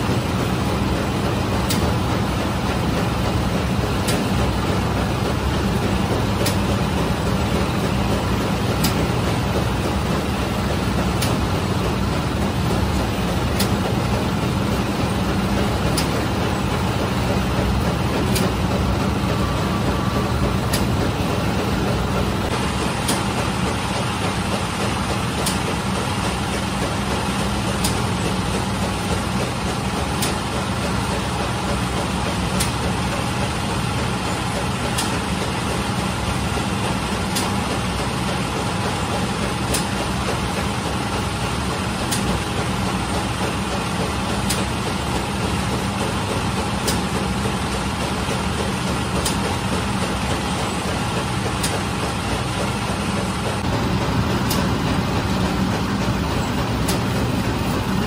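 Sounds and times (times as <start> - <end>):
bread machine mechanical drone: 0.0 - 58.0.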